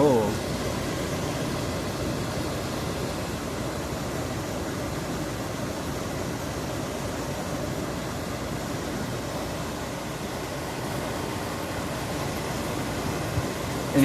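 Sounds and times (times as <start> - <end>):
dehumidifier fan air rush: 0.0 - 14.0.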